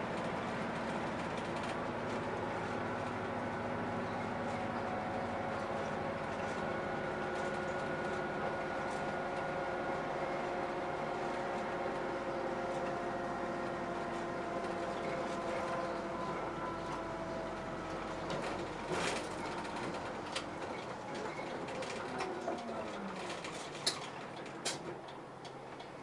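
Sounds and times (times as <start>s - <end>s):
bus engine hum with whine: 0.0s - 26.0s.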